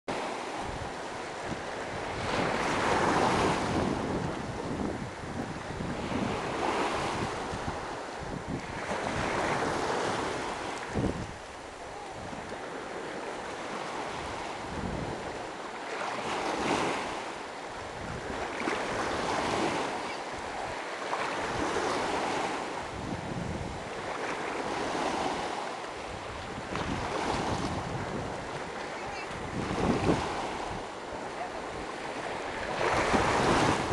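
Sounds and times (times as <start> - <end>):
small waves breaking on shore: 0.1 - 33.9
wind buffeting microphone: 0.5 - 33.9.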